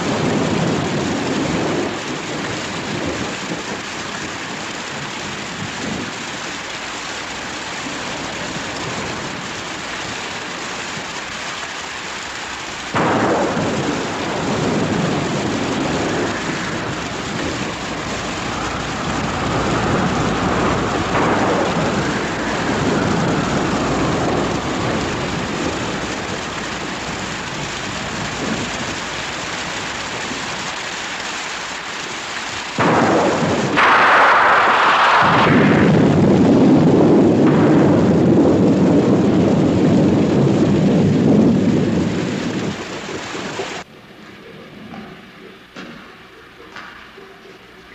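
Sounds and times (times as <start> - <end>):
rolling thunder rumble: 0.0 - 43.9
steady rain: 0.0 - 47.9.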